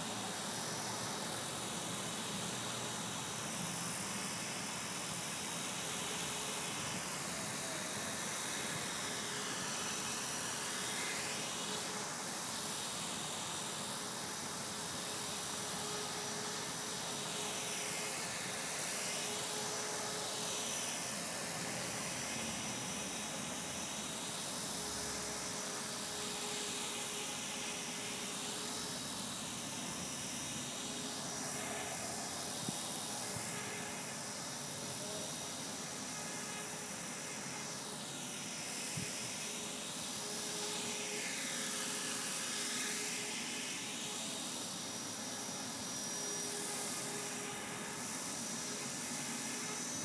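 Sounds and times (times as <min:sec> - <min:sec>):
electric helicopter motor whine: 0:00.0 - 0:50.0
hiss: 0:00.0 - 0:50.0.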